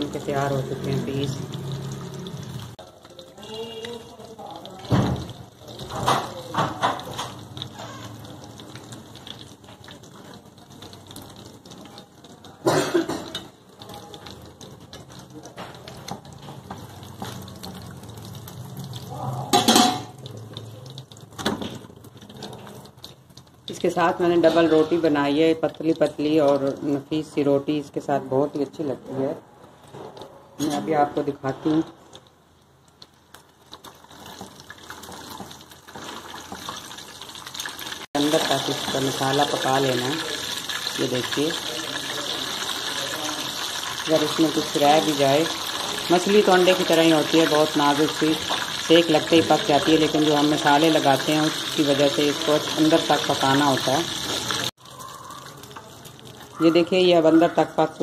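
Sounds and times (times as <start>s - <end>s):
oil sizzling in a pan: 0.0s - 58.0s.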